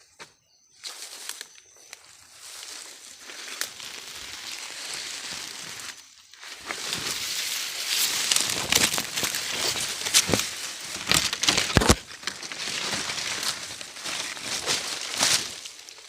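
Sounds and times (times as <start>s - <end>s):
dry leaves and twigs rustling: 0.7s - 16.0s
twigs snapping: 2.7s - 16.0s.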